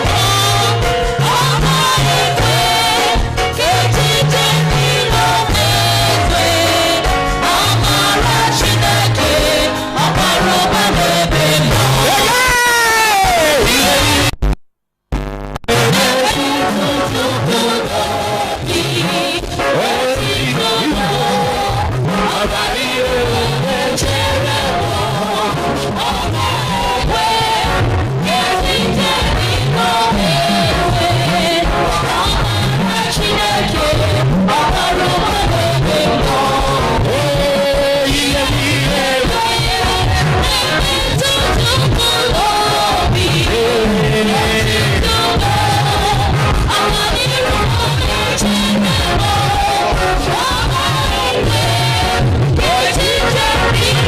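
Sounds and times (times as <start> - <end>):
people singing worship songs: 0.0 - 14.2, 15.7 - 54.0
band with bass and beat: 0.0 - 54.0
drums: 0.0 - 54.0.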